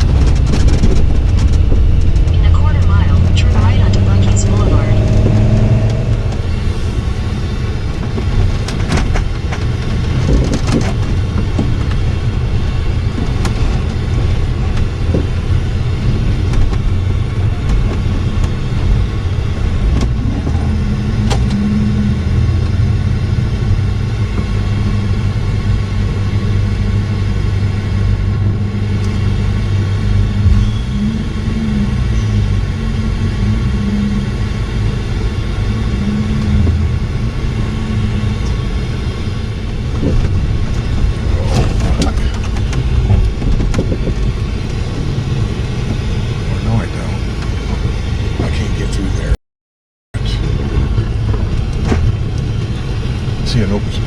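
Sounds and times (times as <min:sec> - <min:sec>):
vehicle engine and road noise: 0:00.0 - 0:49.4, 0:50.2 - 0:54.0.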